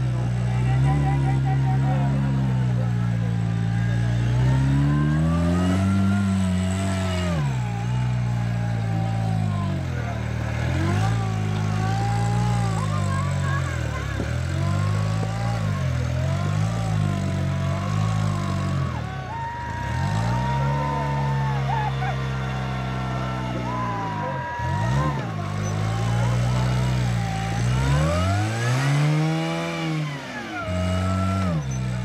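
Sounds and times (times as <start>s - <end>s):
buggy engine revving: 0.0s - 32.0s.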